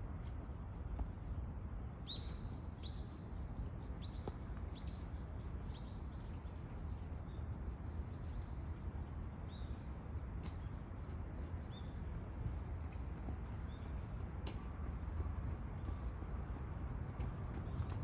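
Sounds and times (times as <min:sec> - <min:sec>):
small birds chirping: 0:01.1 - 0:18.0.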